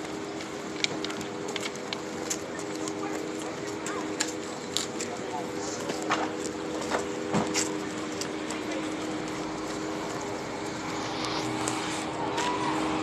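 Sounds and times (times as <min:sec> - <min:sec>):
traffic rushing: 0:00.0 - 0:13.0.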